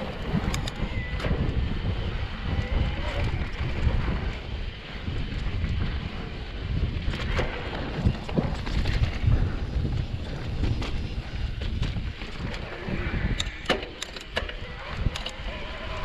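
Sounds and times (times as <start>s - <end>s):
bike knocks and rattles: 0.0s - 16.0s
mountain bike rumbling on trail: 0.0s - 16.0s
wind buffeting microphone: 0.0s - 16.0s.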